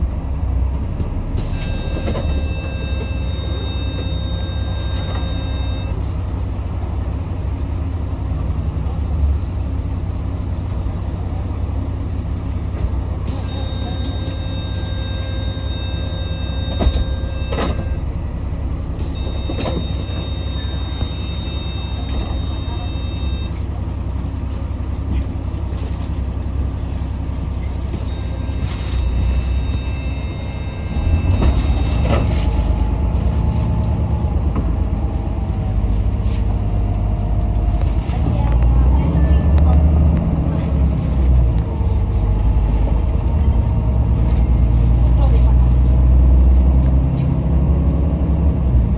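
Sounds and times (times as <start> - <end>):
bus engine and road rumble: 0.0 - 48.9.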